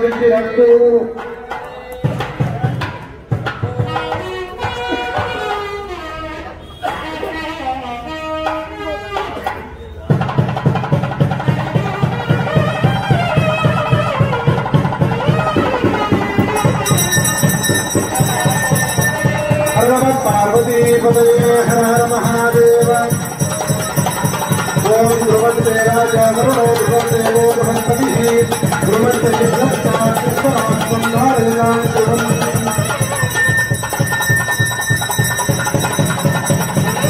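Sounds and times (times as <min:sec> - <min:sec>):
festive music with fast drums: 0:00.0 - 0:07.4, 0:08.0 - 0:37.0.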